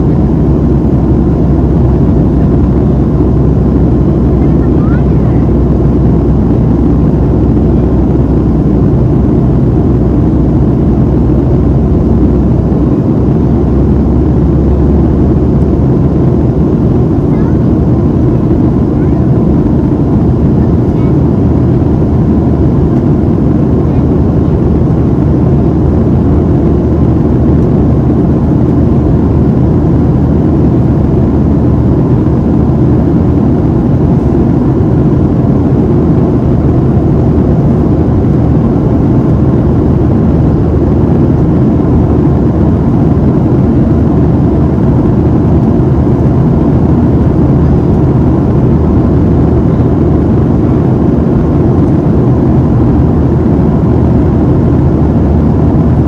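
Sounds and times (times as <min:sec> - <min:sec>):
airflow rushing in cabin: 0:00.0 - 0:56.0
jet engines droning: 0:00.0 - 0:56.0.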